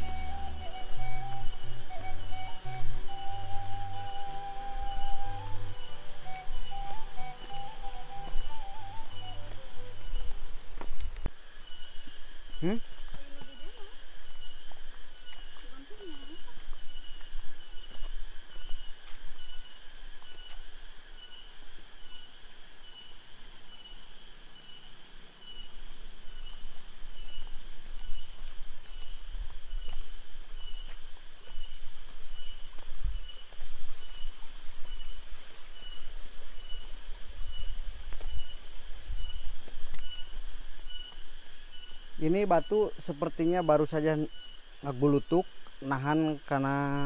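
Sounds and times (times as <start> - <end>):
insects calling: 0.0 - 47.0.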